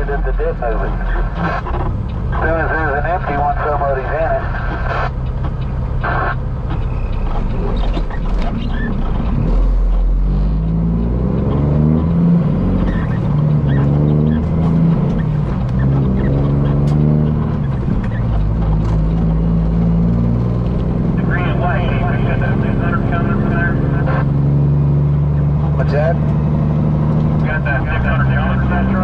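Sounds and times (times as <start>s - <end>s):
truck diesel engine revving: 0.0s - 29.0s.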